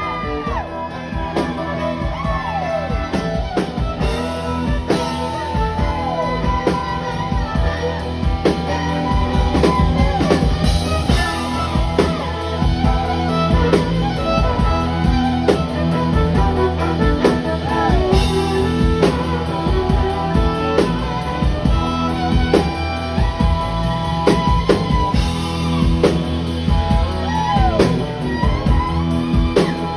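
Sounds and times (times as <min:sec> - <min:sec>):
fiddle playing lead: 0:00.0 - 0:29.9
rock band playing: 0:00.0 - 0:29.9.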